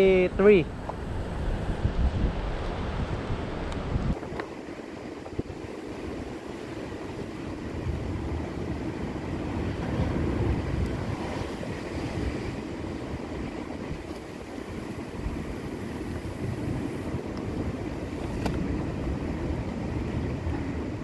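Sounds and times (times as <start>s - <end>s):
sea surf: 0.0s - 21.0s
wind rumbling on microphone: 0.0s - 21.0s.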